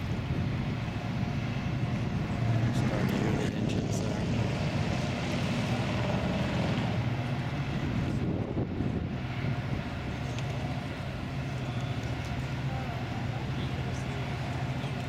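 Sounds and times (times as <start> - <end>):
boat diesel engines droning: 0.0 - 15.0.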